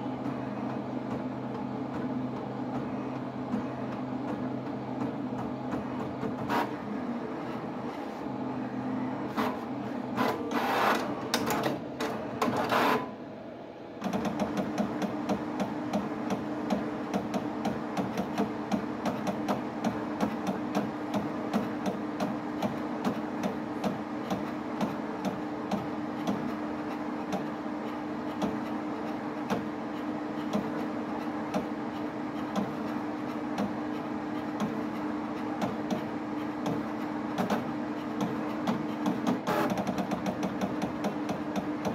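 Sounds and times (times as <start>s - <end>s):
pen plotter motors whirring: 0.0s - 13.2s, 14.0s - 41.9s.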